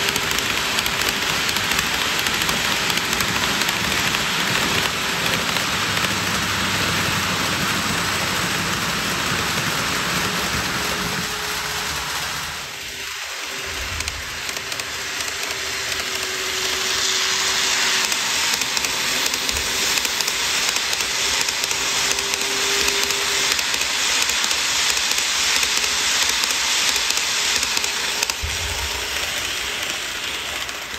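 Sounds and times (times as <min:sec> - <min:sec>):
model train wheels rattling: 0:00.0 - 0:30.9.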